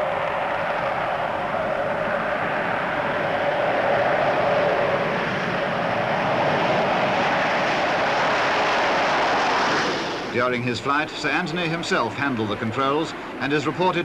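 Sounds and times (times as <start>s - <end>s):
jet engines roaring with whine: 0.0s - 14.0s.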